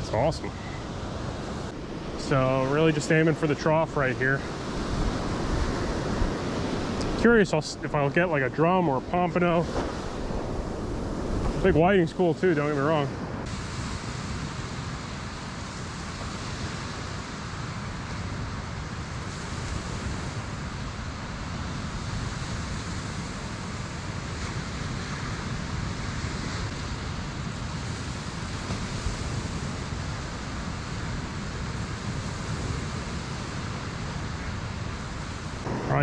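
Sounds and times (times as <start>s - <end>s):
surf breaking on beach: 0.0s - 36.0s
wind on microphone: 0.0s - 36.0s.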